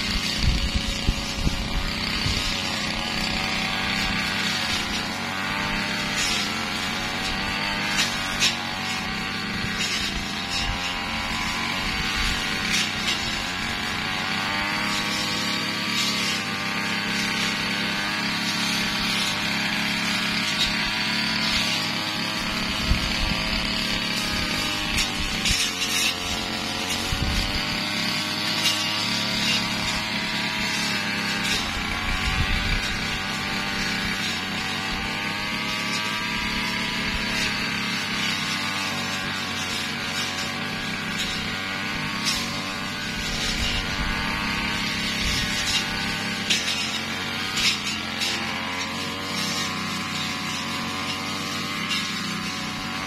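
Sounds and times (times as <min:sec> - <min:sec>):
brush cutter engine running: 0:00.0 - 0:53.0.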